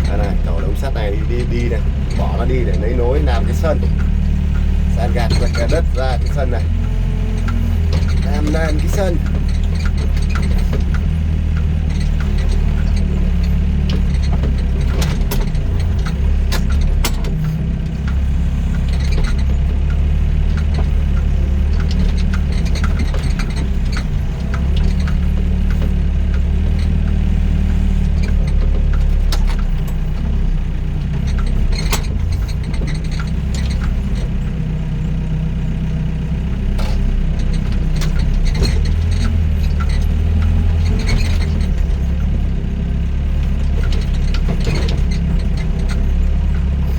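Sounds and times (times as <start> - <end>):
machine clanks and knocks: 0.0 - 34.6, 36.6 - 46.9
excavator diesel engine running: 0.0 - 46.9.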